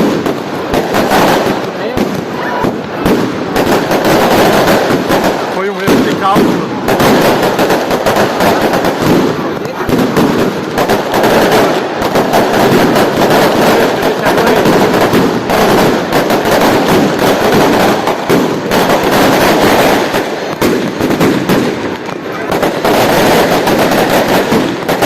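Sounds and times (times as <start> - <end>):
fireworks crackling rapidly: 0.0 - 25.0.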